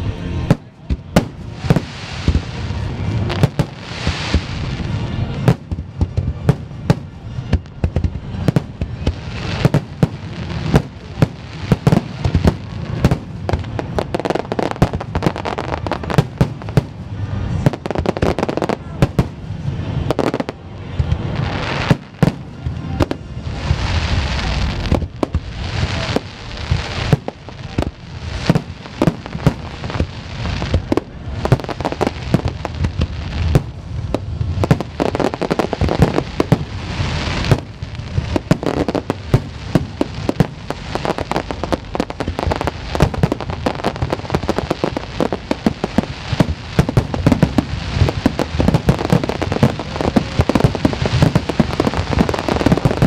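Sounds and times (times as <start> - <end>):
fireworks bursting: 0.0 - 53.0
fireworks crackling: 0.0 - 53.0.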